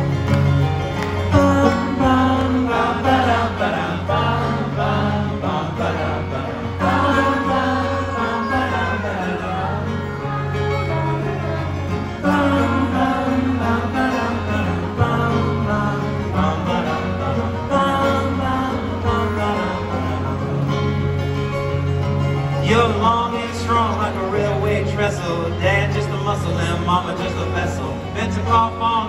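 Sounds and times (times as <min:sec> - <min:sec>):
acoustic guitar playing: 0:00.0 - 0:29.0
banjo playing: 0:00.0 - 0:29.0
men singing in harmony: 0:01.2 - 0:21.1, 0:22.6 - 0:29.0.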